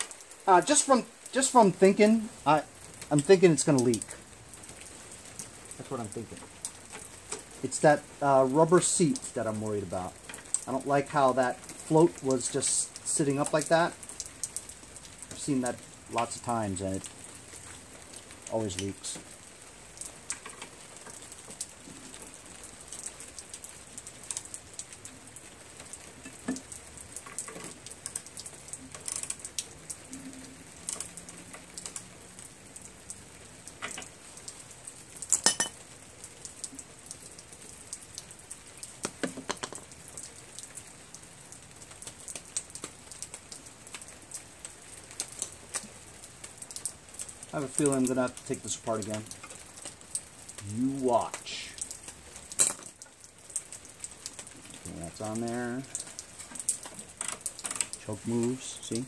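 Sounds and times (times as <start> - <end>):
faint rain-like patter: 0.0 - 59.0.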